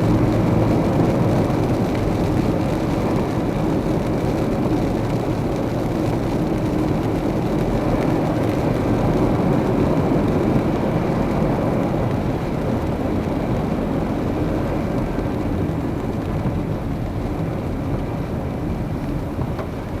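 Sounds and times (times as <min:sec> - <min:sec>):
car tyres on wet road: 0:00.0 - 0:20.0
heavy rain: 0:00.0 - 0:20.0.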